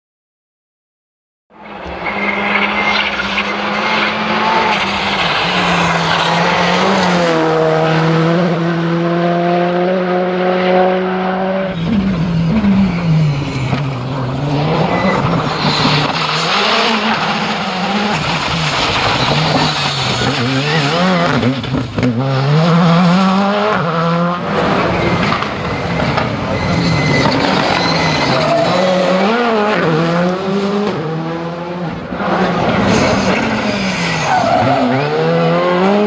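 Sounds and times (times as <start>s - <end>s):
rally car engine revving: 1.6s - 36.0s.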